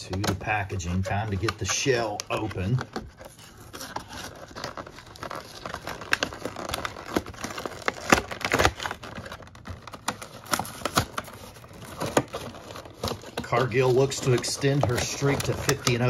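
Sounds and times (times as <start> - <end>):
plastic packaging crackling: 0.0 - 16.0.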